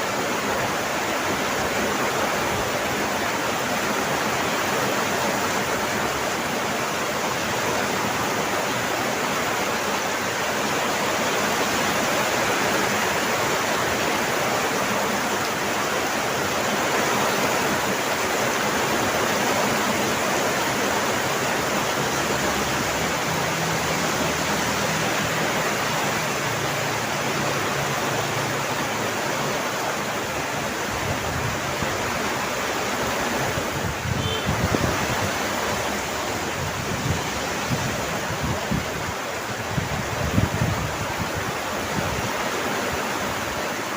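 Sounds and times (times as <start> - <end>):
heavy rain: 0.0 - 43.9.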